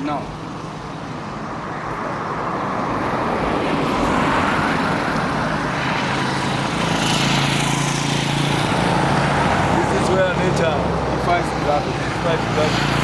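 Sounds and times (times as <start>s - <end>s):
vehicle passing rushing noise: 1.4s - 13.0s.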